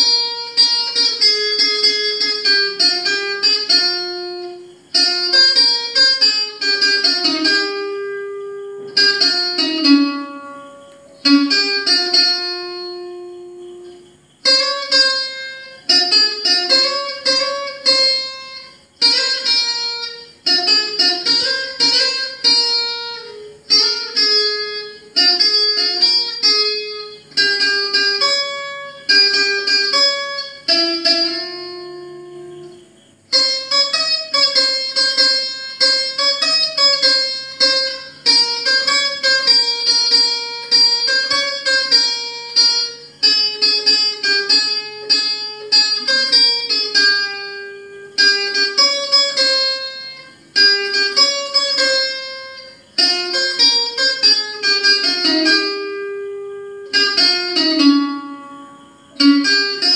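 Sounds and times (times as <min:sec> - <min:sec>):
acoustic guitar melody: 0:00.0 - 0:59.9.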